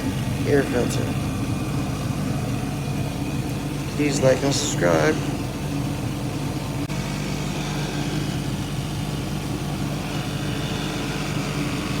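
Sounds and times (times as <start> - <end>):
furnace motor hum: 0.0 - 12.0.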